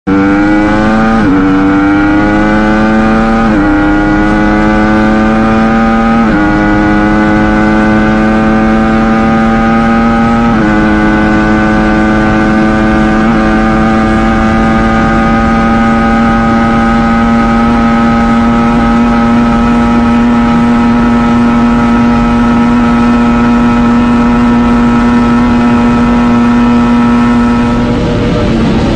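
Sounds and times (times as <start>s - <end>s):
motorcycle engine accelerating: 0.1s - 28.9s.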